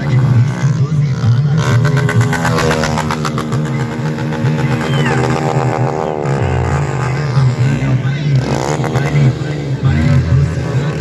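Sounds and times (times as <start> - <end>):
engine revving high: 0.0 - 11.0.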